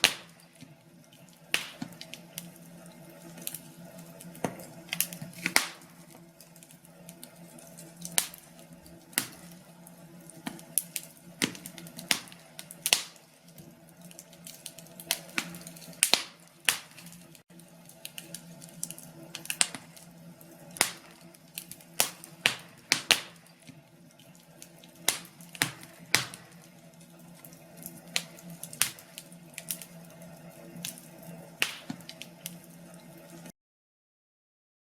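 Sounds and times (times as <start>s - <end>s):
wood fire crackling: 0.0s - 33.5s.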